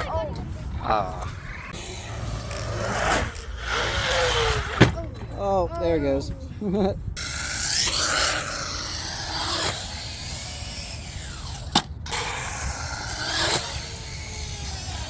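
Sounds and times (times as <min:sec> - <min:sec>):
rc car tyres and wind rushing: 0:00.0 - 0:15.0
electric motor whine: 0:00.9 - 0:05.4, 0:07.2 - 0:15.0.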